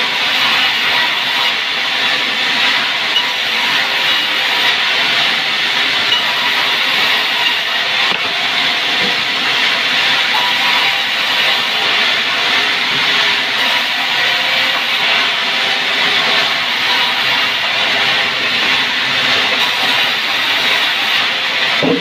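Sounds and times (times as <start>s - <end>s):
sawmill saw cutting wood: 0.0s - 22.0s.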